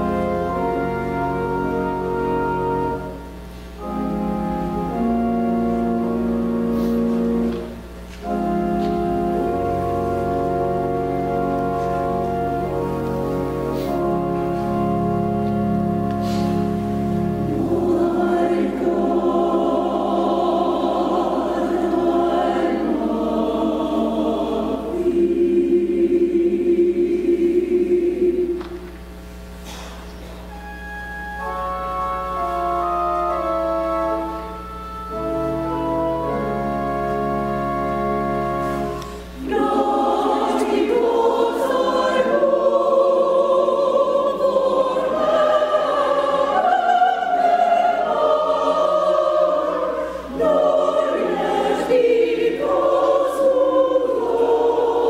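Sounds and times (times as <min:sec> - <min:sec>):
choir singing: 0:00.0 - 0:29.0, 0:32.4 - 0:55.0
organ: 0:00.0 - 0:55.0.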